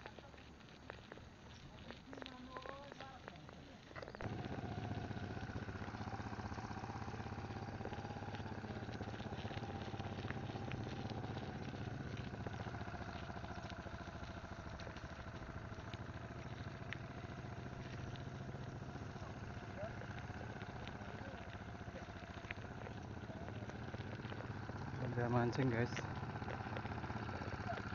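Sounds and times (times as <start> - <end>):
bicycle riding on dirt track: 0.0 - 27.9.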